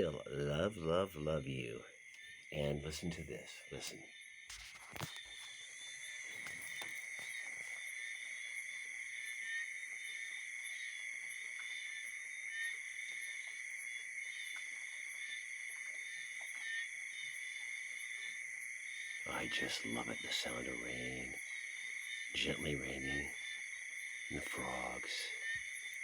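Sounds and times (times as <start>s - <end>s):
faint rain hiss: 0.0s - 9.3s, 10.0s - 26.0s
frogs trilling: 0.0s - 26.0s.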